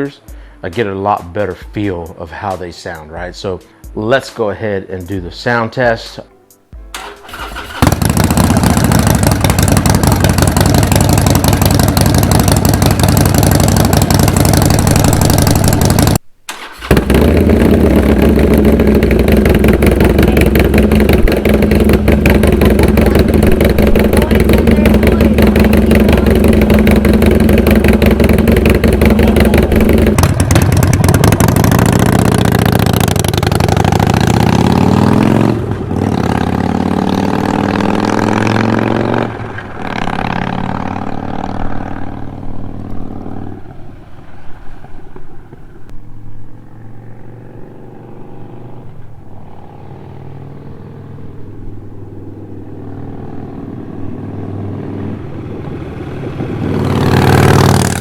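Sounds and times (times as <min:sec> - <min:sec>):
motorcycle engine revving: 0:06.8 - 0:58.0.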